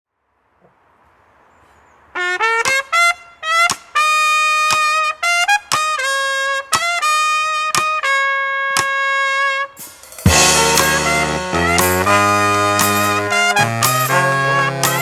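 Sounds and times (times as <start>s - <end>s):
solo trumpet playing: 2.2s - 15.0s.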